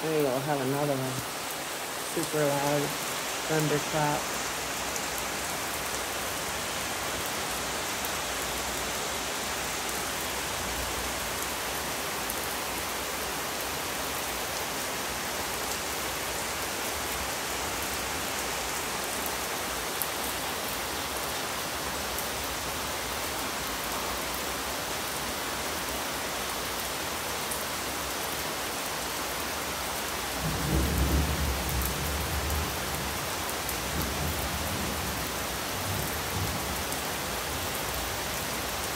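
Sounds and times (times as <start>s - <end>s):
heavy rain on wooden deck: 0.0s - 38.9s.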